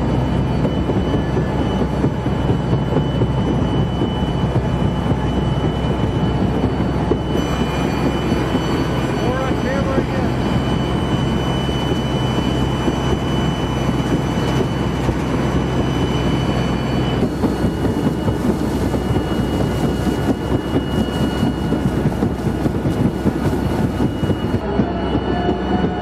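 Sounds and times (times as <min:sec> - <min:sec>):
vessel drive rumbling: 0:00.0 - 0:26.0.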